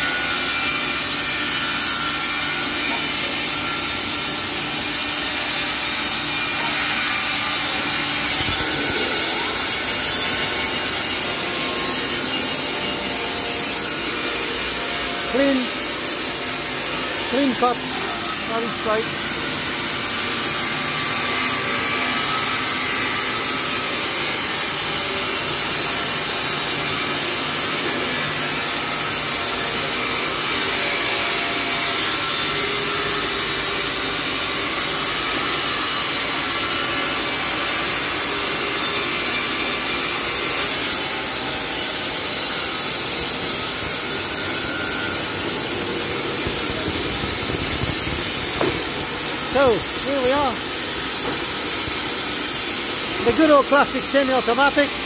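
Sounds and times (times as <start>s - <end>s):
band sawmill running: 0.0s - 55.0s.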